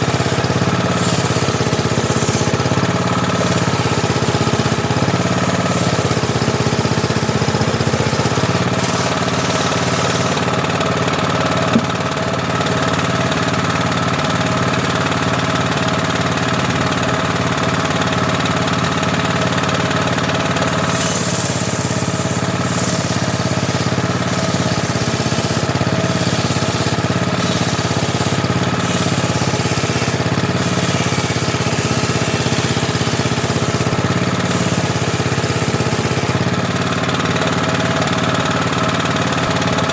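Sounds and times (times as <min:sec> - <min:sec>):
table saw running: 0:00.0 - 0:39.9.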